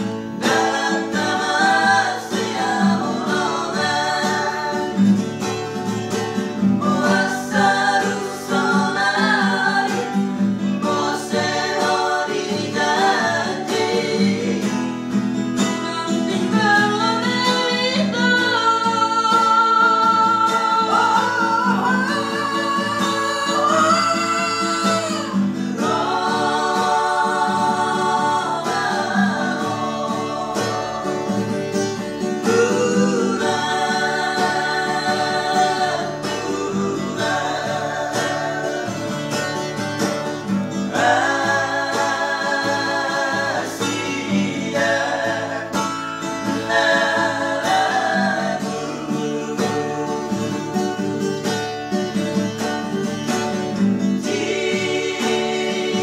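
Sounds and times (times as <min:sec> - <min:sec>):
men singing: 0:00.0 - 0:51.0, 0:54.0 - 0:56.0
acoustic guitar strumming: 0:00.0 - 0:56.0.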